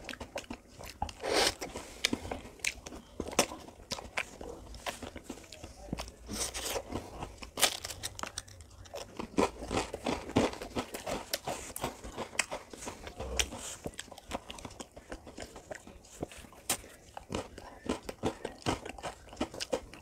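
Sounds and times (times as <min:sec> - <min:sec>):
crunching and chewing ice cream: 0:00.0 - 0:20.0.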